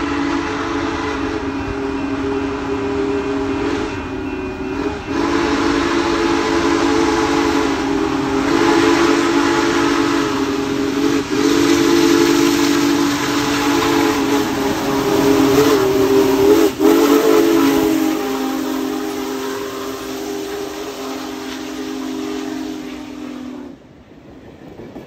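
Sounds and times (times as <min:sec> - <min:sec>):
steam locomotive chime whistle: 0:00.0 - 0:23.8
rush of steam and running noise: 0:00.0 - 0:24.6.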